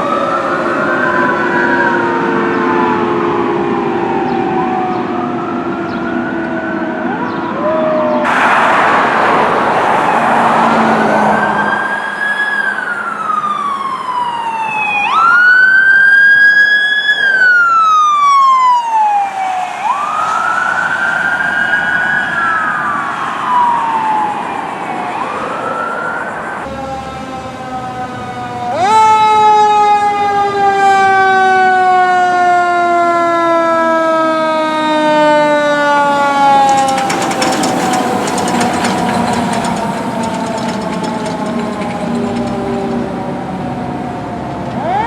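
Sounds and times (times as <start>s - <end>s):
engine and road noise: 0.0s - 45.0s
fire truck siren wailing: 0.0s - 45.0s.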